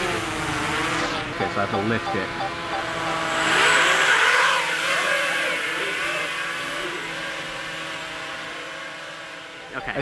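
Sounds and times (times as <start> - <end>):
drone propellers whining: 0.0 - 10.0.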